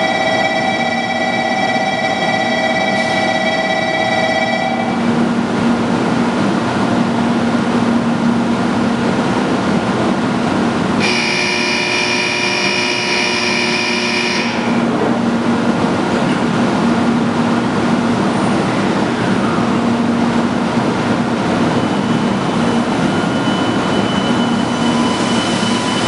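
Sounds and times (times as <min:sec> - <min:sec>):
train low hum and hiss: 0:00.0 - 0:26.0.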